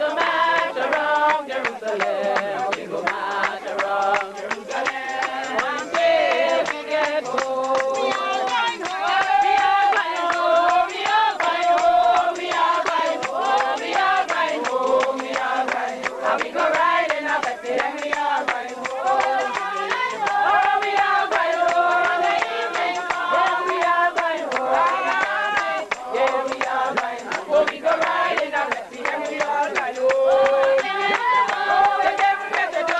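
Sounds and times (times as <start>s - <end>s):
group of people singing: 0.0s - 32.9s
hand clapping: 0.0s - 32.9s.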